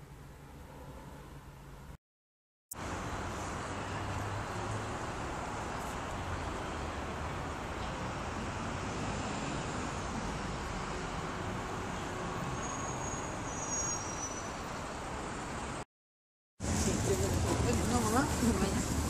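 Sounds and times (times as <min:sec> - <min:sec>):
city street traffic rumble: 0:02.7 - 0:15.8, 0:16.6 - 0:19.0.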